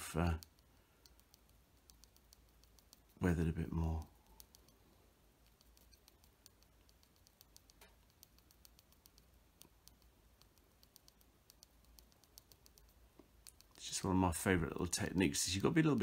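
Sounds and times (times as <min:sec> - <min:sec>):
pencil tapping and scraping plastic: 0:00.0 - 0:04.8, 0:05.4 - 0:16.0.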